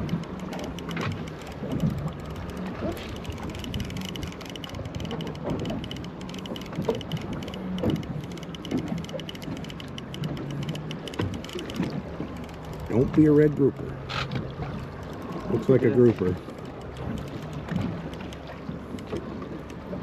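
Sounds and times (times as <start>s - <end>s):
fishing reel clicking rapidly: 0.0s - 13.6s, 16.3s - 19.1s.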